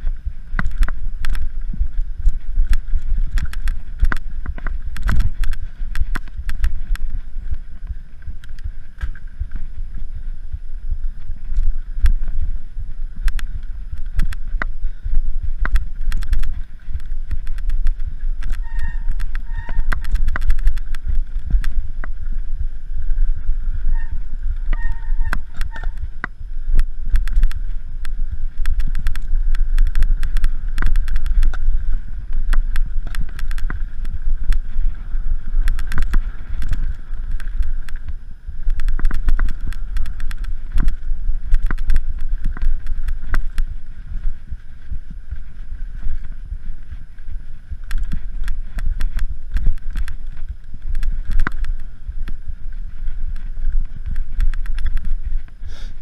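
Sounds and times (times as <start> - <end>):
bike rattling and clicking: 0.0 - 56.0
bike tyres rumbling: 0.0 - 56.0.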